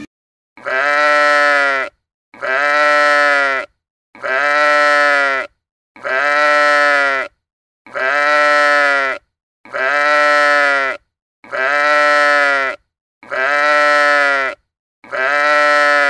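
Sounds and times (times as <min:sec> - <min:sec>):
sheep bleating: 0:00.6 - 0:16.0.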